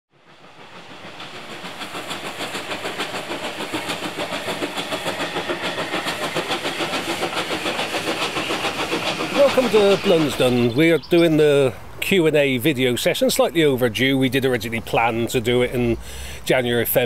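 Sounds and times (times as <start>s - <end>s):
steam locomotive exhaust beats: 0.1s - 17.0s.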